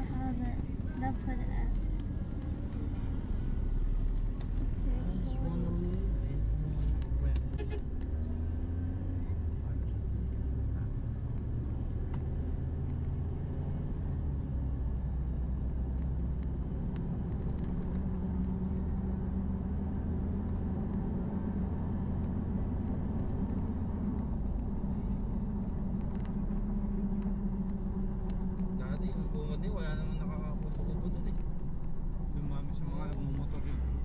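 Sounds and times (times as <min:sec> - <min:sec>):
car engine rumble: 0:00.0 - 0:34.0.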